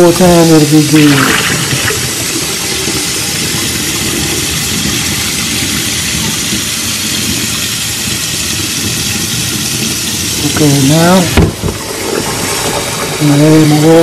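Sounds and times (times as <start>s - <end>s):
faucet running into metal sink: 0.0s - 14.0s
rinse water splashing and draining: 0.0s - 14.0s.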